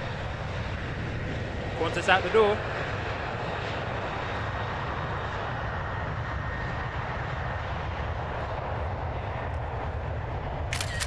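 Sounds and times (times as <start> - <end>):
faint jet engine whine: 0.0 - 11.0
jet engines rumbling: 0.0 - 11.0.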